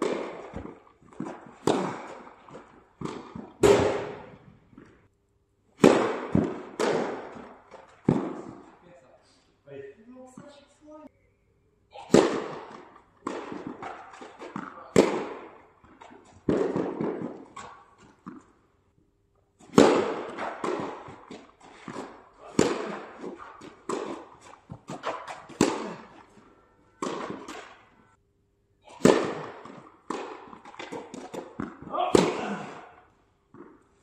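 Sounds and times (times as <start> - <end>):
tennis ball bouncing on court: 0.0 - 5.0, 5.8 - 8.7, 12.1 - 18.6, 19.6 - 28.0, 28.9 - 32.9, 33.5 - 34.0
tennis racket hitting ball: 0.0 - 5.0, 5.8 - 8.8, 12.0 - 18.5, 19.6 - 28.0, 28.9 - 34.0.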